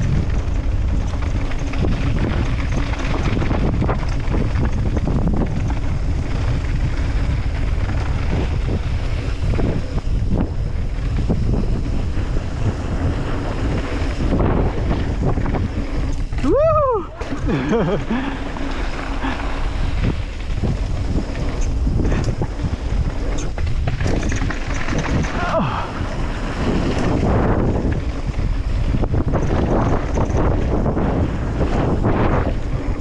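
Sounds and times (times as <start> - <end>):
bike knocking and rattling: 0.0 - 33.0
bike tyres rumbling on dirt: 0.0 - 33.0
wind buffeting microphone: 0.0 - 33.0.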